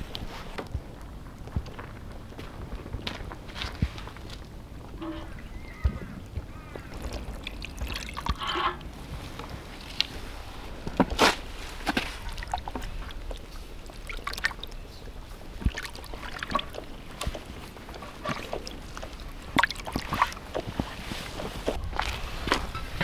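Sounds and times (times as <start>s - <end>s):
water splashing and dripping: 3.4s - 22.8s.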